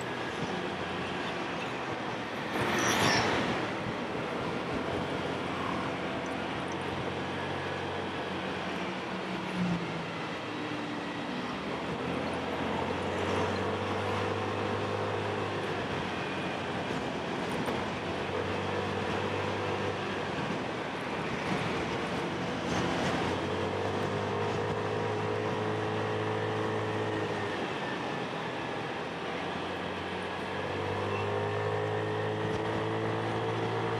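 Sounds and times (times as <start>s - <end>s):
wind and road noise: 0.0s - 33.9s.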